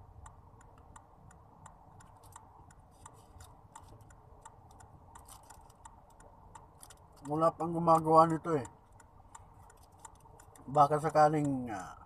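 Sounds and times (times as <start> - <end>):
faint even ticking: 0.0 - 12.0
low steady hum: 0.0 - 12.0.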